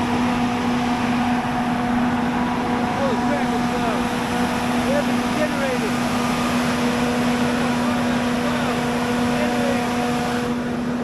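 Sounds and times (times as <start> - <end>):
generator running loudly: 0.0 - 11.0.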